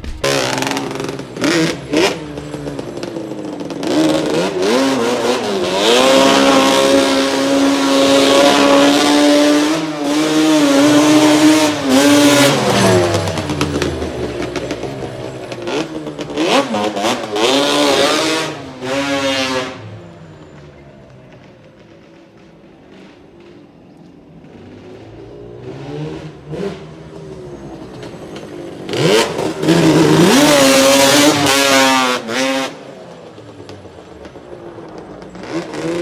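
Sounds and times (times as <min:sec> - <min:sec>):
quad bike engine revving: 0:00.0 - 0:36.0.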